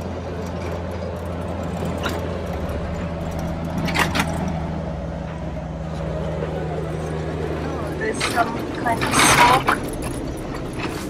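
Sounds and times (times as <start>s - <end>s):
sharp clicks and rattles: 0.0s - 5.7s, 6.4s - 11.0s
vehicle driving on gravel: 0.0s - 11.0s.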